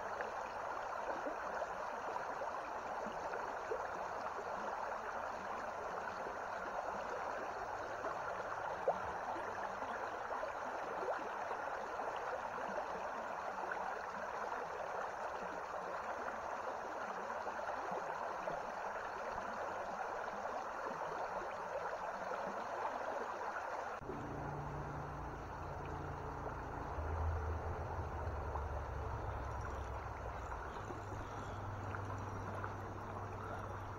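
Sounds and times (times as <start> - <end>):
creek running over stones: 0.0 - 33.9.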